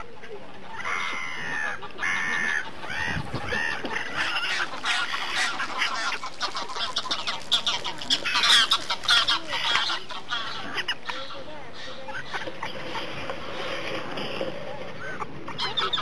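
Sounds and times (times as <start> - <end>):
waterfowl calling: 0.0 - 16.0.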